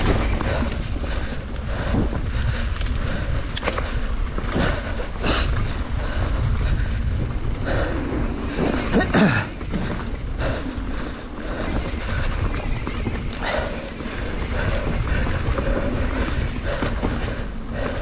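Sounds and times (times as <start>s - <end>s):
bike rattling and knocking: 0.0s - 18.0s
bike tyres rumbling on dirt: 0.0s - 18.0s
wind on microphone: 0.0s - 18.0s.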